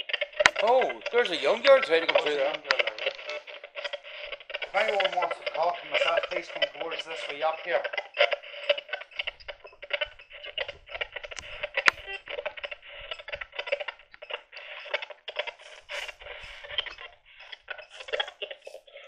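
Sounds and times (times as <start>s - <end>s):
radio static fragments sweeping: 0.0s - 19.0s.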